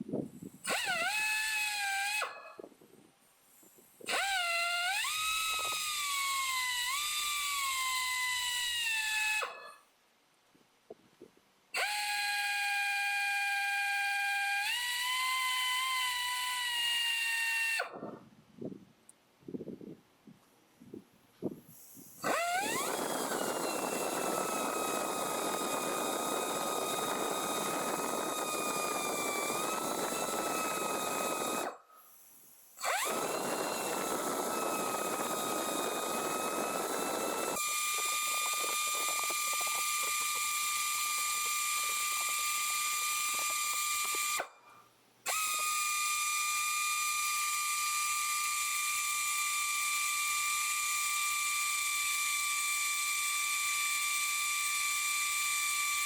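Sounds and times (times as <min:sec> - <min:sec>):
power drill whining: 0:00.6 - 0:02.7, 0:04.0 - 0:09.8, 0:11.8 - 0:18.2, 0:21.7 - 0:44.7, 0:45.3 - 0:56.0.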